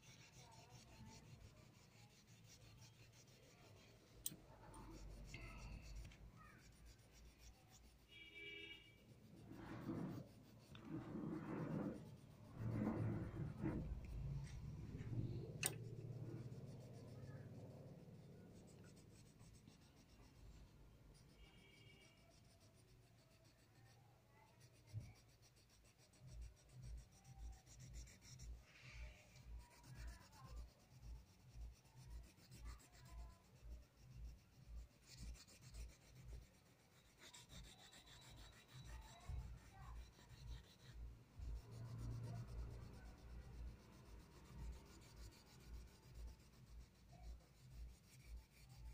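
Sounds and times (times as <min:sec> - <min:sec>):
pencil shading on paper: 0:00.0 - 0:48.9.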